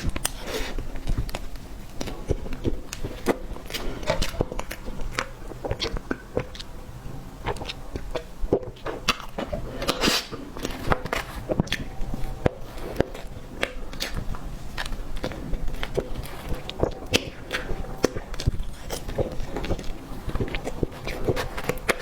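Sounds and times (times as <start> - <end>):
chewing cake: 0.0 - 22.0.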